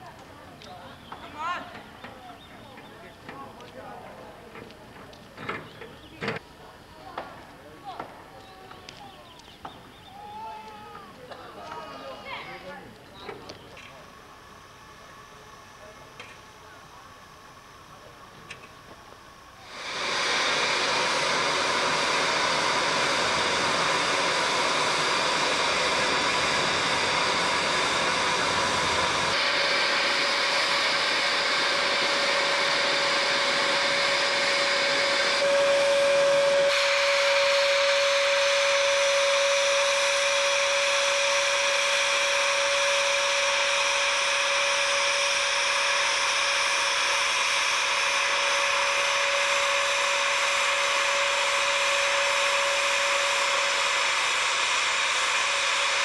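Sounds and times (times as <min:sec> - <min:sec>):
steam hissing from locomotive: 0:09.1 - 0:56.0.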